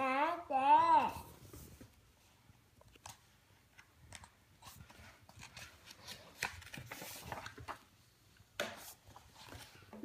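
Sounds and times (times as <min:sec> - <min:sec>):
book pages rustling and turning: 0:01.3 - 0:10.0.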